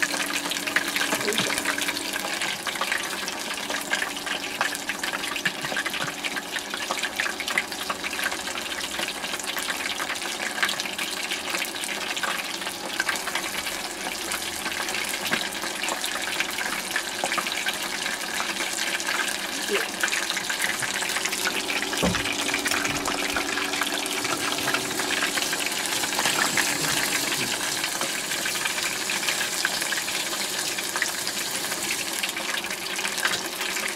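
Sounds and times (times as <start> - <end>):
chicken sizzling in hot oil: 0.0 - 33.9.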